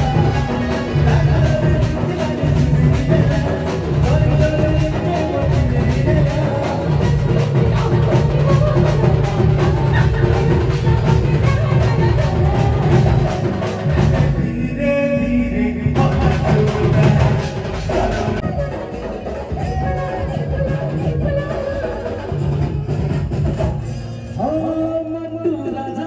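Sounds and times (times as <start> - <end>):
bass and guitar: 0.0 - 21.4
drum kit beat: 0.0 - 25.0.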